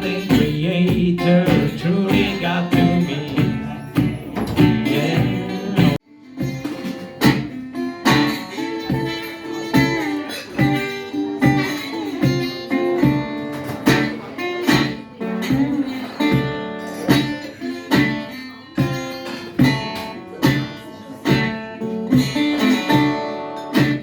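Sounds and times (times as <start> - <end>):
resonator guitar plucked notes: 0.0 - 24.0.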